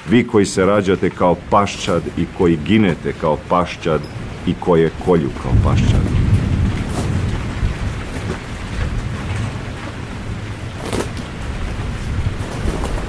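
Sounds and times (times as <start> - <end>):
rain falling: 0.0 - 13.0
low rumble of thunder: 0.9 - 13.0.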